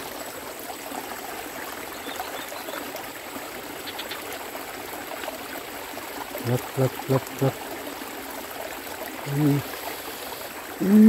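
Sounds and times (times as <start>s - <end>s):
water trickling through ditch: 0.0s - 11.0s.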